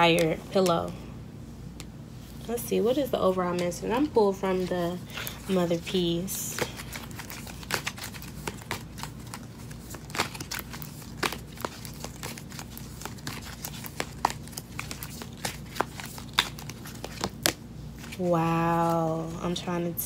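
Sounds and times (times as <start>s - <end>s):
cards being shuffled: 2.3s - 19.0s.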